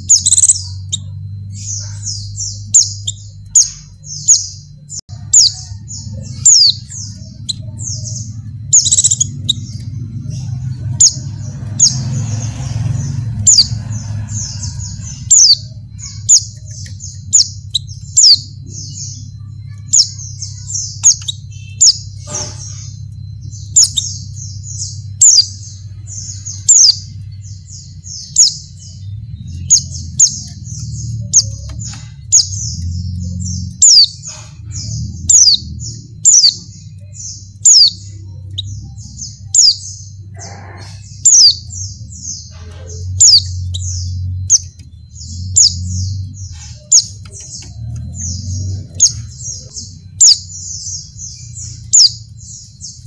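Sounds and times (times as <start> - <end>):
bird twittering chirps: 0.0 - 53.0
steady low hum: 0.0 - 53.0.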